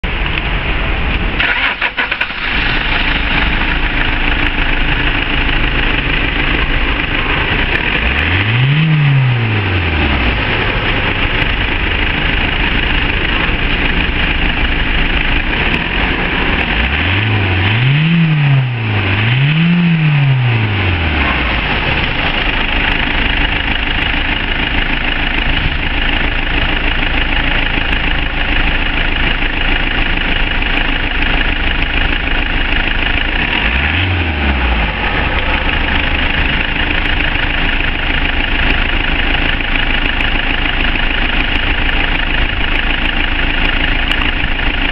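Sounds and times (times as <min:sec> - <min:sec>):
diesel engine idling and revving: 0:00.0 - 0:44.9.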